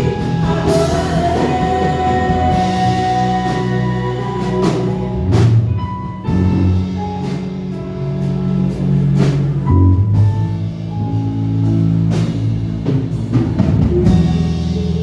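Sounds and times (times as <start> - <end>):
live worship band music: 0.0 - 15.0.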